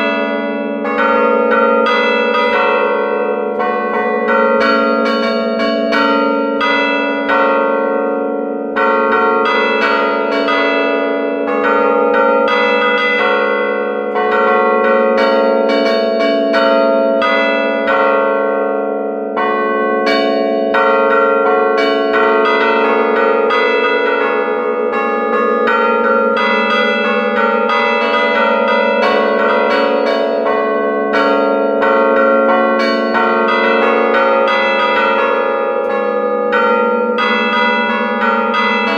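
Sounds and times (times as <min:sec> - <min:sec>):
clappers striking church bells: 0:00.0 - 0:38.9
hum of overlapping bell ringing: 0:00.0 - 0:38.9.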